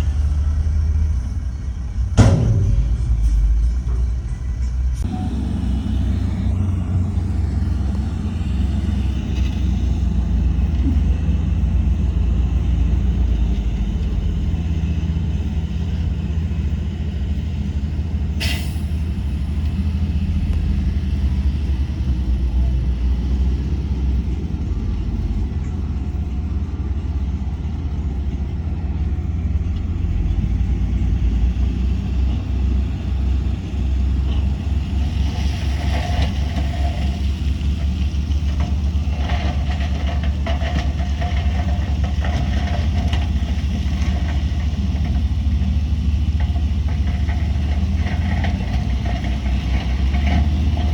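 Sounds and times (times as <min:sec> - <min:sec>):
diesel machinery rumbling: 0:00.0 - 0:50.9.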